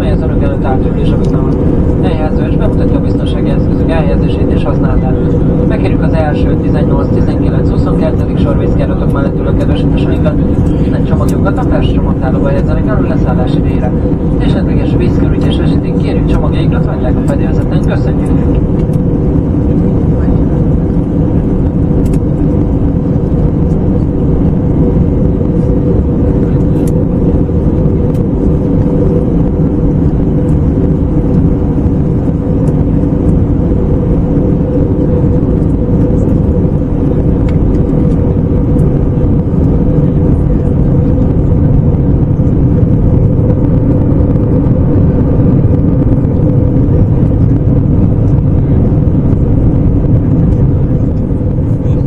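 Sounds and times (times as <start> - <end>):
airplane cabin drone: 0.0 - 52.0.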